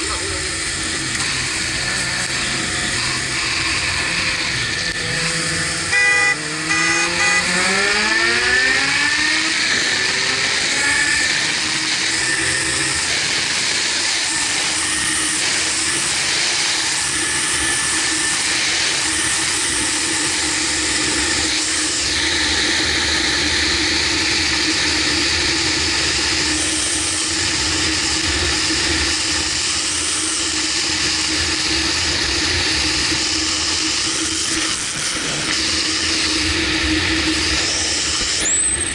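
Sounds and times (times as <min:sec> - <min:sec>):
motorcycle engine pulling hard: 0:00.0 - 0:38.9.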